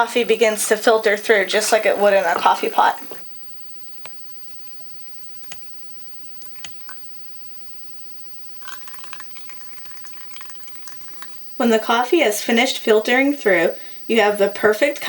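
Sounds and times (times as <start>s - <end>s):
electrical hum: 0.0s - 15.0s
coffee dripping through filter: 1.6s - 14.6s.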